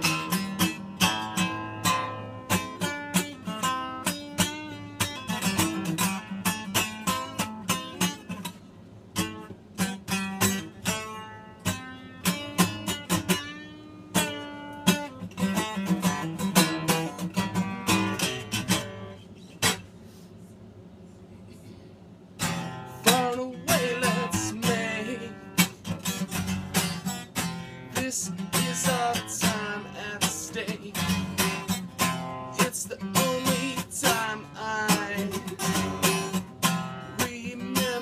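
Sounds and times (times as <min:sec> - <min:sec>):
acoustic guitar strumming: 0:00.0 - 0:20.2, 0:22.2 - 0:38.0.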